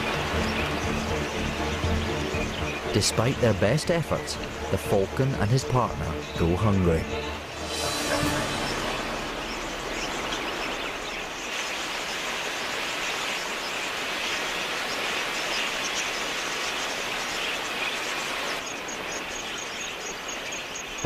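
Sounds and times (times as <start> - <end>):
budgerigars chattering: 0.0 - 21.0.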